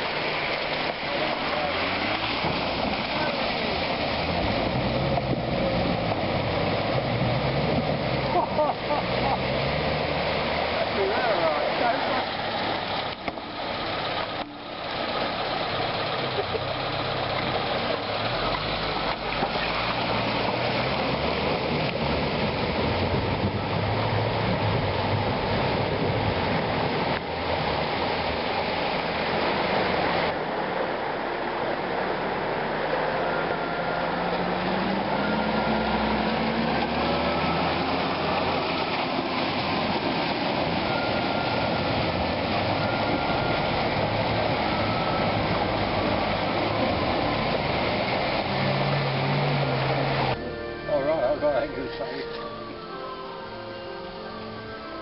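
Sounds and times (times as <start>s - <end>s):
engines running and revving: 0.0s - 55.0s
rushing river water: 0.0s - 55.0s.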